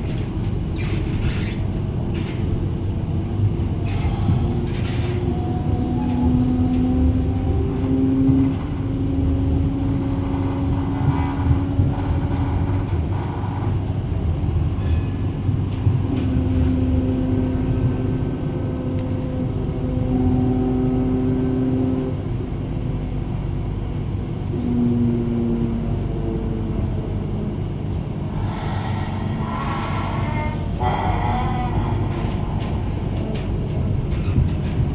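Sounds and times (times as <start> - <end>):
tram wheels rumbling on rail: 0.0 - 34.9.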